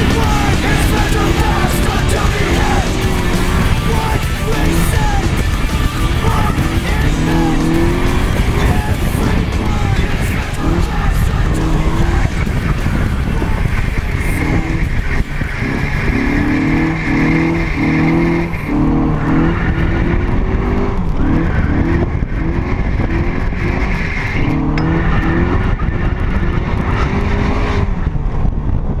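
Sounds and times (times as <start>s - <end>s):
car engine revving: 0.0s - 29.0s
wind buffeting: 0.0s - 29.0s.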